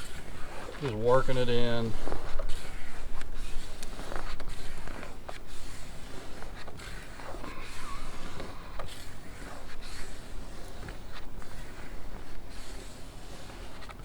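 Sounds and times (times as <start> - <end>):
scraping decal on window glass: 0.0 - 14.0.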